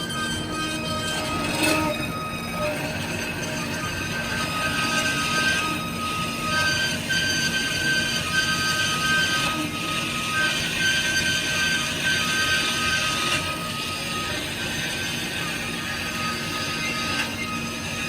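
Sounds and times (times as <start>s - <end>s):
high-pitched metallic squeal: 0.0s - 18.0s
metal band saw running: 0.0s - 18.0s.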